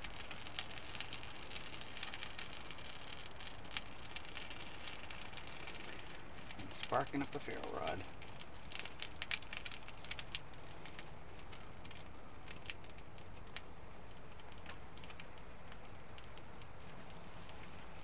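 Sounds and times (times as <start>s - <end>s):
sharp pops of fire: 0.0s - 18.0s
small fire crackling: 0.0s - 18.0s
steady low hiss of fire: 0.0s - 18.0s.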